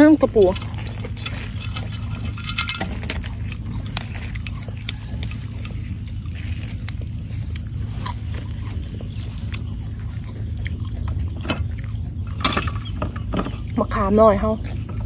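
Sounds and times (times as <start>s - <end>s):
close chewing with crunchy clicks: 0.0s - 15.0s
leafy greens snapping and rustling: 0.0s - 15.0s.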